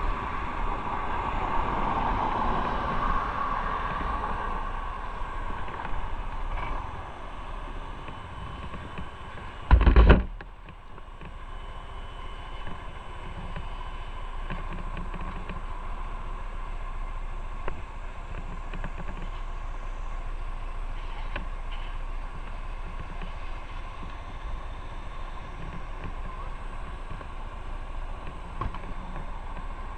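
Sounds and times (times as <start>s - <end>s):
road wind noise: 0.0s - 29.9s.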